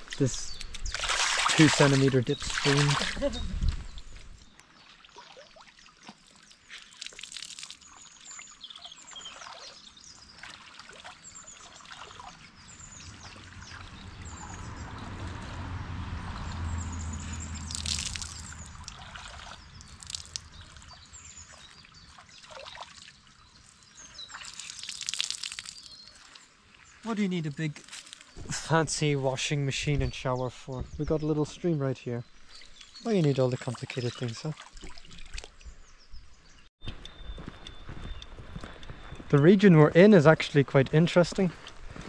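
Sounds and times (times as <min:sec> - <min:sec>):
water splashing and trickling: 0:00.0 - 0:36.7, 0:38.6 - 0:42.0.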